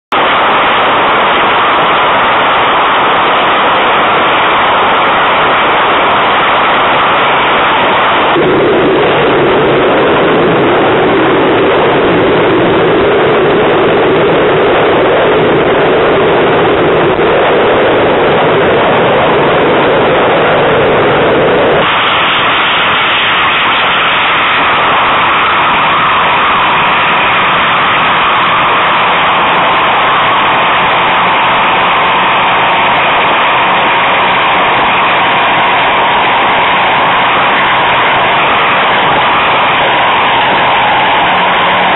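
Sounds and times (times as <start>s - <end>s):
outboard engines at speed: 0.1s - 41.9s
wind noise on microphone: 0.1s - 41.9s.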